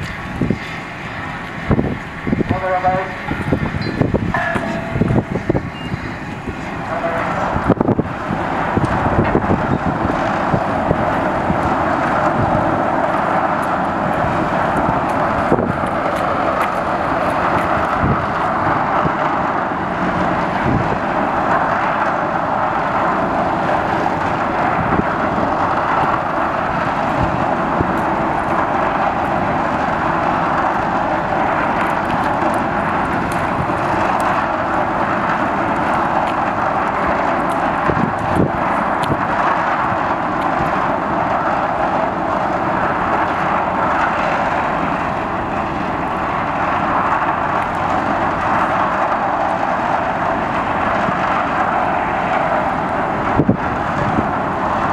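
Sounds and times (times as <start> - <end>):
ship engines roaring: 0.0 - 54.9.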